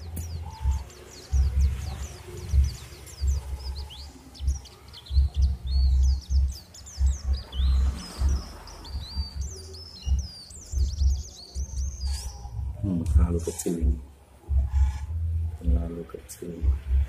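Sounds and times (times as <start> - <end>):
low rumbling thuds: 0.0 - 15.9, 16.6 - 17.0
small birds chirping: 0.0 - 17.0.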